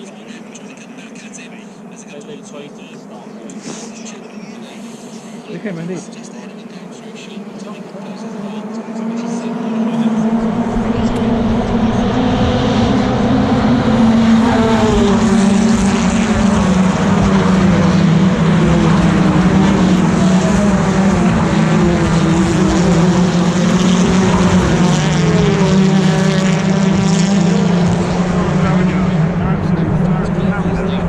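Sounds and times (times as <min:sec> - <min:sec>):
racing cars passing: 0:00.0 - 0:31.0.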